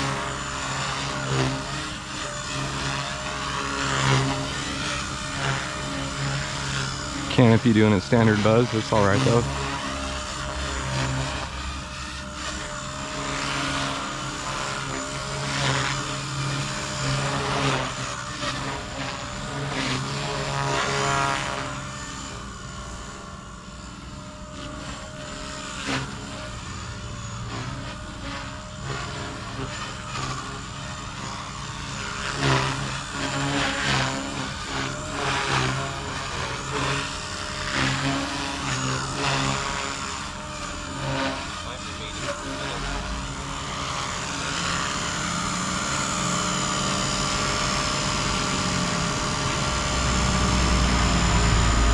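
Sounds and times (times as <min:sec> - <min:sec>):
canopy buzzing from vibration: 0:00.0 - 0:51.9
electric helicopter motor whine: 0:00.0 - 0:51.9.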